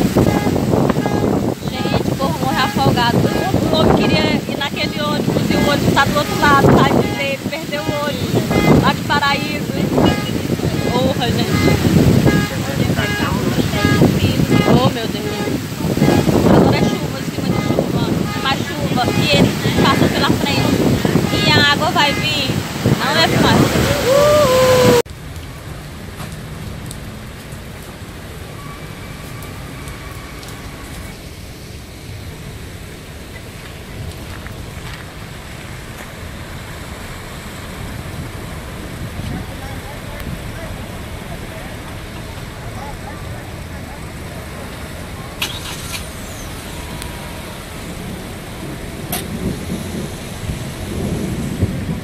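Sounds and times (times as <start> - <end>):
cars on wet road: 0.0 - 52.0
rain hissing: 0.0 - 52.0
rushing floodwater: 0.0 - 52.0.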